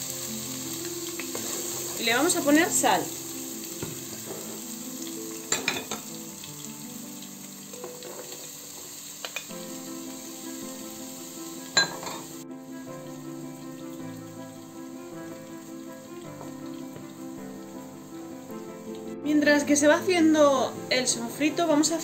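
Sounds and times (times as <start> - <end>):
onion sizzling in oil: 0.0 - 22.0
soft background music: 0.0 - 22.0.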